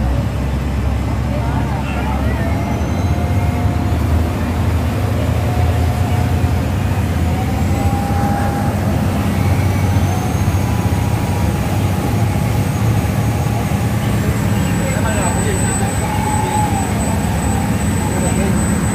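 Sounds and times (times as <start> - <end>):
boat engine drone: 0.0 - 18.9
faint whine: 1.3 - 18.9.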